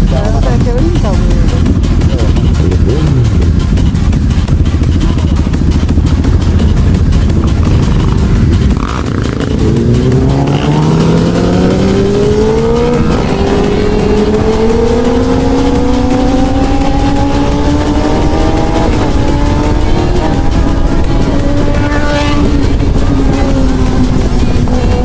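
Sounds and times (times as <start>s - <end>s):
motorcycle engine accelerating: 0.0s - 25.0s
wind rush: 1.3s - 25.0s.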